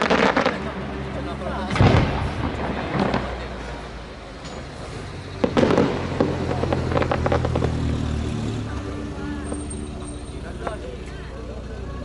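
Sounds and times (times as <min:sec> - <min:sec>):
firework crackles: 0:00.0 - 0:11.3.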